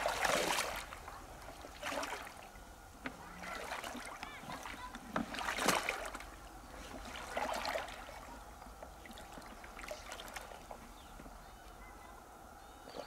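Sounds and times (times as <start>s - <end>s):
river water sloshing and splashing: 0.0s - 11.1s.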